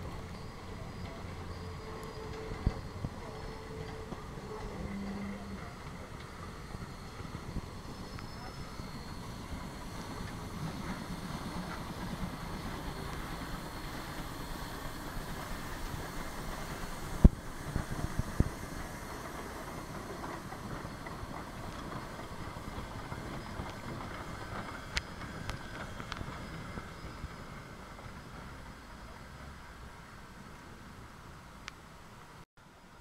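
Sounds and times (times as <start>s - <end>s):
steam locomotives rumbling past: 0.0s - 33.0s.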